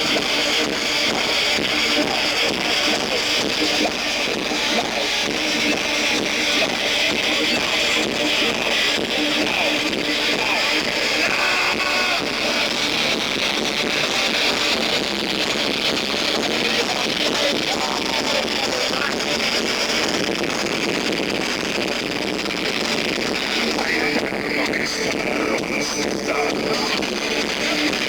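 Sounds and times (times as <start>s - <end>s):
rock band with distorted guitars: 0.0s - 28.0s.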